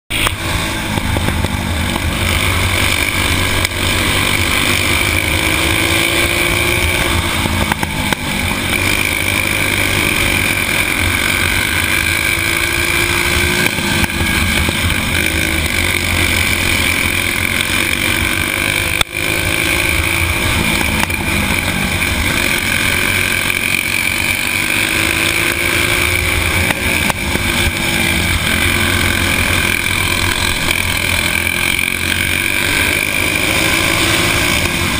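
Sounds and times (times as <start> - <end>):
kart engine at high revs: 0.1 - 34.9.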